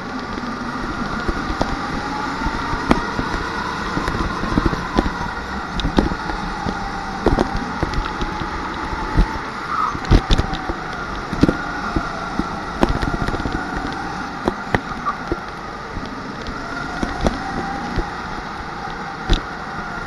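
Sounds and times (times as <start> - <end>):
go-kart motor: 0.0 - 20.0
chassis clicks and knocks: 0.1 - 19.6.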